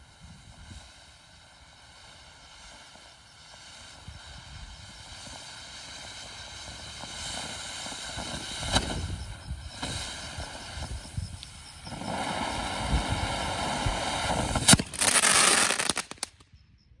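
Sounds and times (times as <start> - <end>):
firework fountain hissing: 0.0 - 16.4
firework pops: 2.7 - 16.6.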